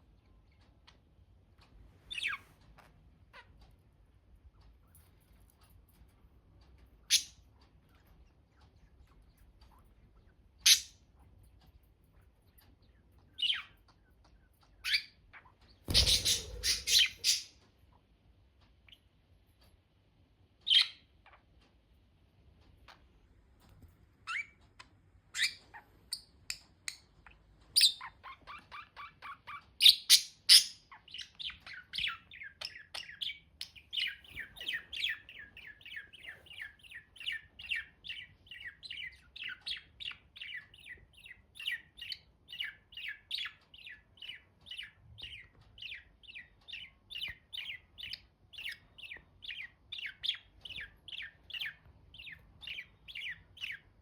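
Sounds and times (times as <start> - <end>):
budgies chirping: 2.0 - 3.8, 6.7 - 17.6, 20.6 - 21.6, 24.2 - 54.0.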